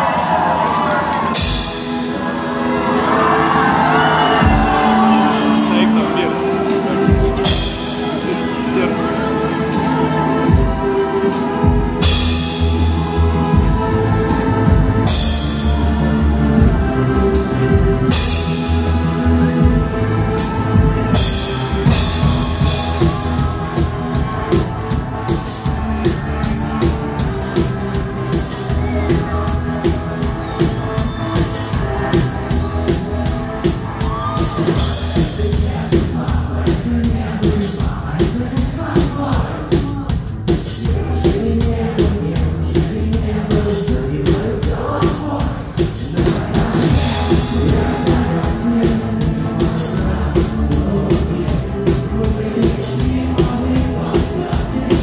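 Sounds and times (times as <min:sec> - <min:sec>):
rock band playing live: 0:00.0 - 0:55.0
drum kit steady beat: 0:01.2 - 0:55.0.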